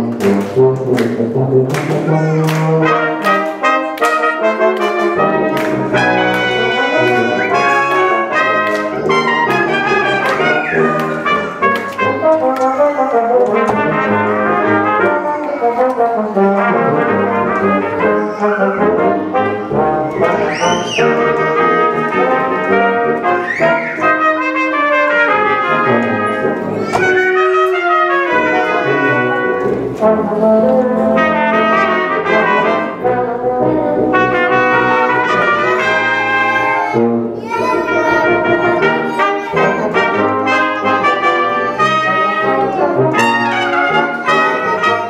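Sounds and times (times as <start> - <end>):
brass ensemble playing: 0.0 - 45.0.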